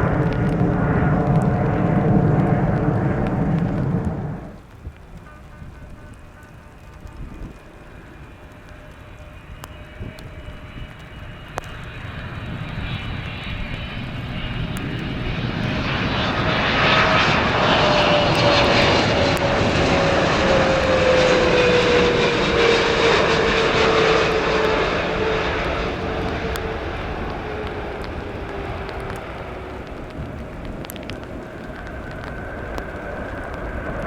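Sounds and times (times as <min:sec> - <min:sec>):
jet airliner engines roaring: 0:00.0 - 0:34.0.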